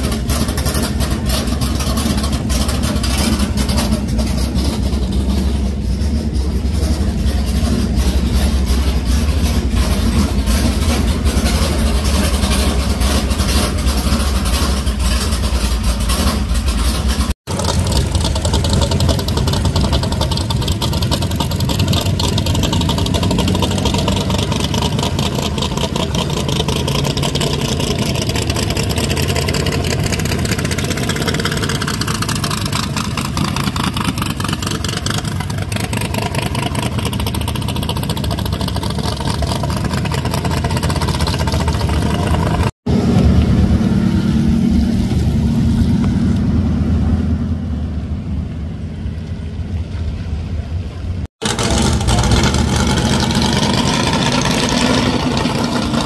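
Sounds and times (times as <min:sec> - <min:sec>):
drag car pulling away: 0:00.0 - 0:56.0
hot-rod engines idling: 0:00.0 - 0:56.0.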